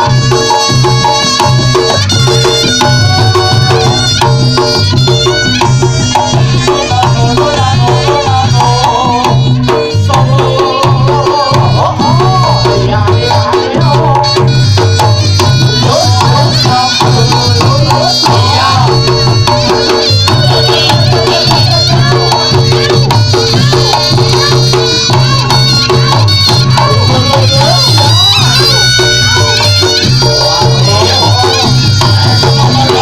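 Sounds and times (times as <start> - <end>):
drums: 0.0 - 33.0.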